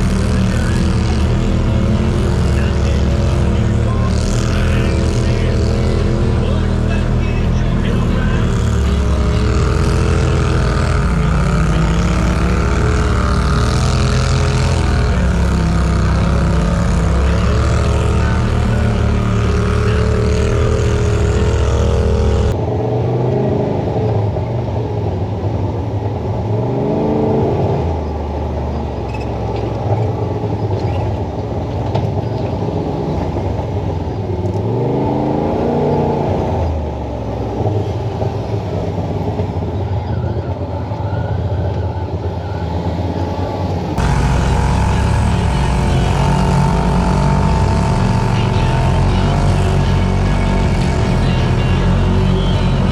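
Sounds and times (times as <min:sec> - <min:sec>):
utility vehicle engine revving: 0:00.0 - 0:24.1, 0:26.4 - 0:39.6, 0:41.7 - 0:52.9.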